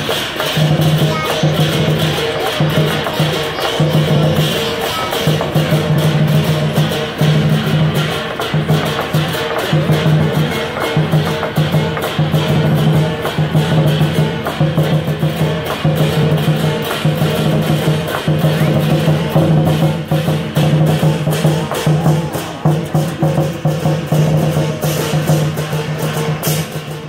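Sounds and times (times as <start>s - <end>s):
big drum beating fast: 0.0s - 27.0s
cymbals clashing: 0.0s - 27.0s.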